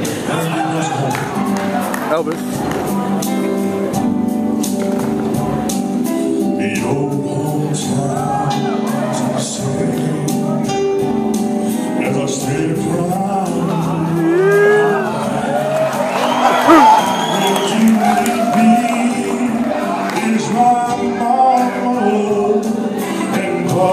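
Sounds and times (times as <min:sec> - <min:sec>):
guitar: 0:00.0 - 0:23.9
lead performer at microphone: 0:00.0 - 0:23.9.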